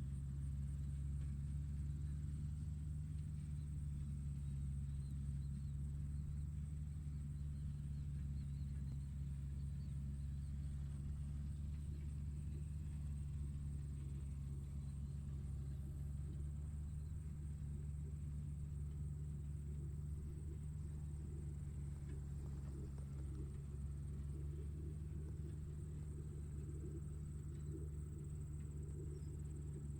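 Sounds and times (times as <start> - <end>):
tractor engine droning: 0.0 - 29.9.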